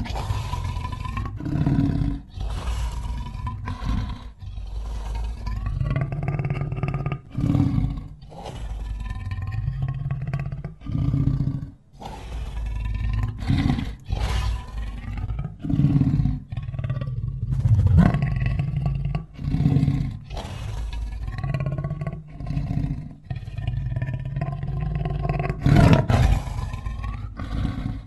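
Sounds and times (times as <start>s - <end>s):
lion roaring and growling: 0.0s - 28.0s.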